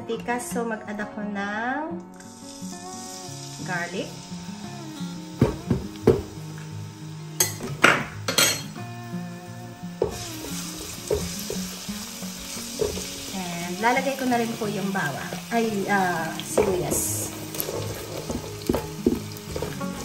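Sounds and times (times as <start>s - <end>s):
background music: 0.0s - 20.0s
garlic sizzling in hot oil: 2.1s - 20.0s.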